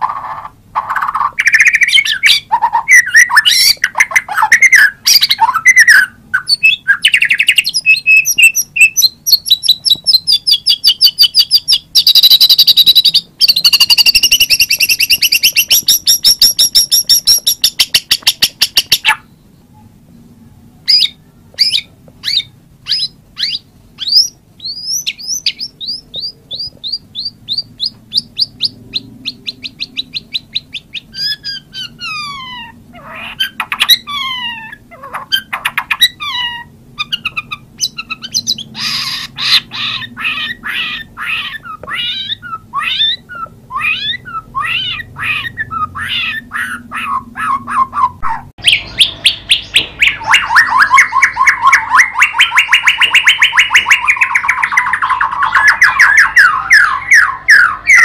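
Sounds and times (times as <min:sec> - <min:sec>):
songbird singing whistles and trills: 0:00.0 - 0:19.9, 0:20.8 - 0:58.0.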